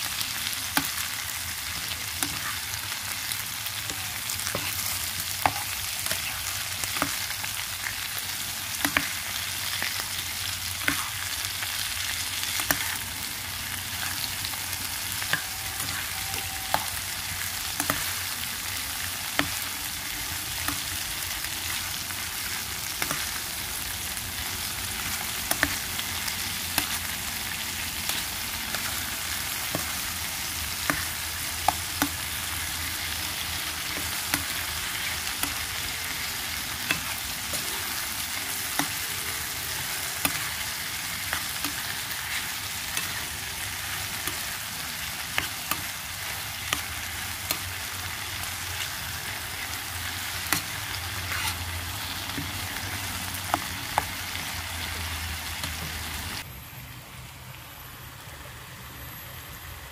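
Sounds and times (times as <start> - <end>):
food sizzling in oil: 0.0 - 56.5.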